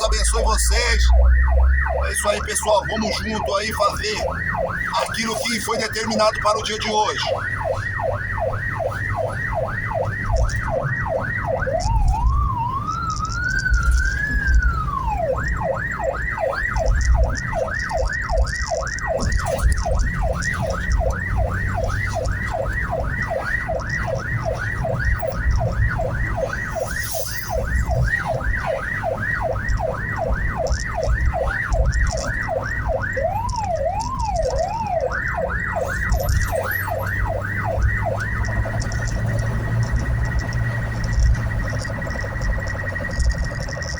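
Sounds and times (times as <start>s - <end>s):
ambulance siren: 0.0s - 43.9s
road noise: 0.0s - 43.9s.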